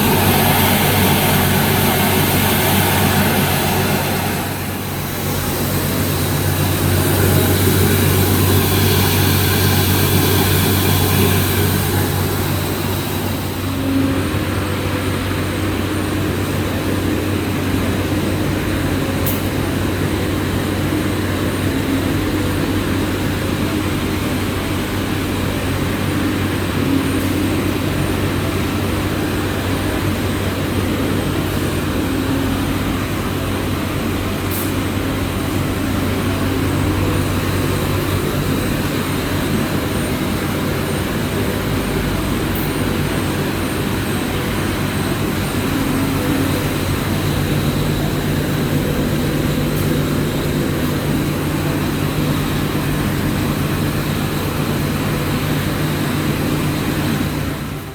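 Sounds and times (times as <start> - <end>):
industrial machinery humming: 0.0 - 57.9.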